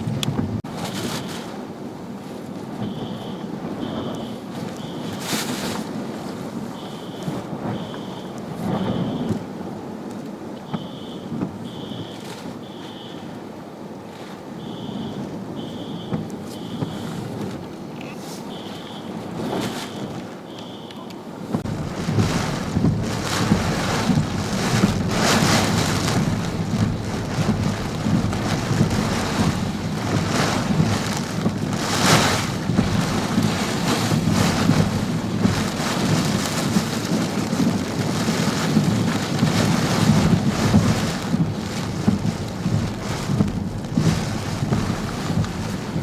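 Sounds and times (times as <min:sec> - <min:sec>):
wind rumble on microphone: 0:00.0 - 0:20.5, 0:21.4 - 0:46.0
driving rain: 0:00.0 - 0:46.0
strong gusting wind: 0:00.0 - 0:46.0.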